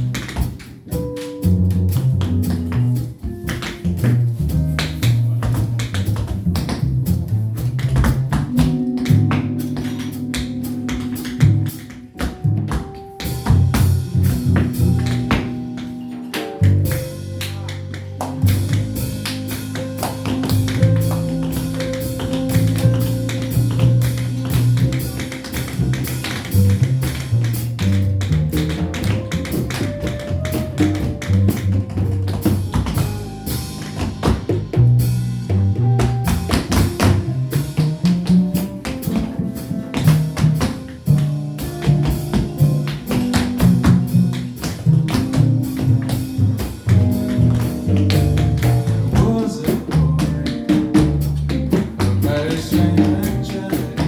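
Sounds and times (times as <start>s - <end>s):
drums: 0.0s - 54.0s
tap shoes striking floor: 0.0s - 54.0s
walking double bass: 0.0s - 54.0s
guitar: 7.6s - 54.0s.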